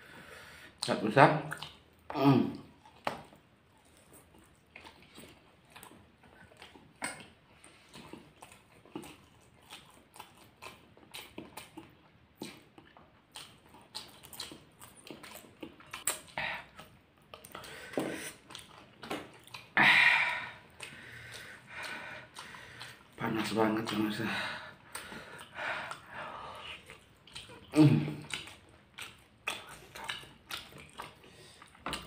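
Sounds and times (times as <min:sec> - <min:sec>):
chewing and mouth smacking: 0:00.8 - 0:19.8, 0:20.4 - 0:32.0.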